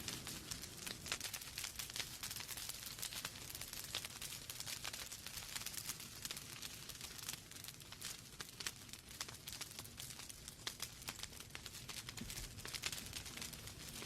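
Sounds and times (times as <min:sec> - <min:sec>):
faint fire hiss: 0:00.0 - 0:14.0
wood fire crackling and popping: 0:00.0 - 0:14.0.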